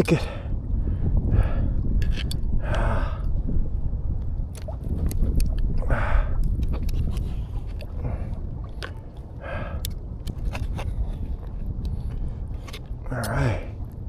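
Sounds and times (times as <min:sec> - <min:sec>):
water around boat: 0:00.0 - 0:14.0
wind buffeting microphone: 0:00.0 - 0:14.0.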